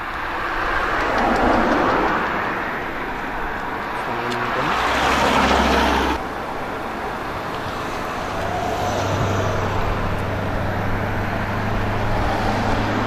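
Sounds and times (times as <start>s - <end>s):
low engine hum: 0.0s - 13.0s
road traffic passing: 0.0s - 13.0s.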